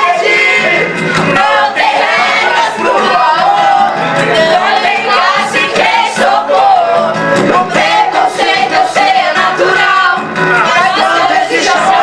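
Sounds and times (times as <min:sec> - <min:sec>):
group singing loudly: 0:00.0 - 0:12.0
music: 0:00.0 - 0:12.0.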